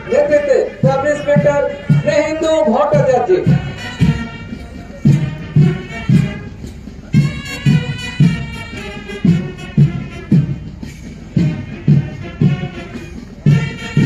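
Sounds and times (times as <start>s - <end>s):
bass drum beat: 0.0s - 14.0s
brass band playing a march: 0.0s - 14.0s.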